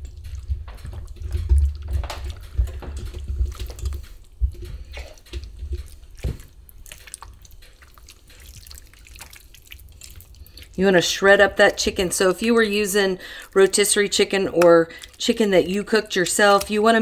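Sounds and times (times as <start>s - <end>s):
spatula mashing food in bowl: 0.0s - 17.0s.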